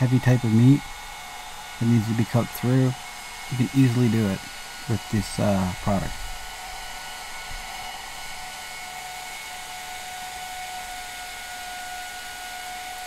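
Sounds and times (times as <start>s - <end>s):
blower fan running: 0.0s - 13.0s.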